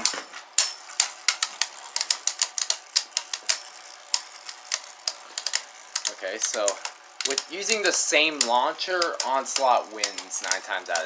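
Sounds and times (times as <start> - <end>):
spinning tops clashing plastic clacks: 0.0 - 11.0.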